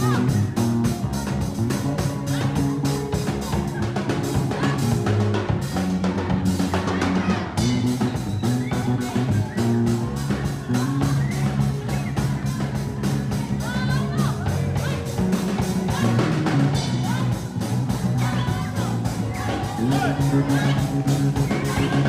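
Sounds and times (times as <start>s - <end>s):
drum kit beat: 0.0s - 22.0s
electric bass: 0.0s - 22.0s
keyboard: 0.0s - 22.0s.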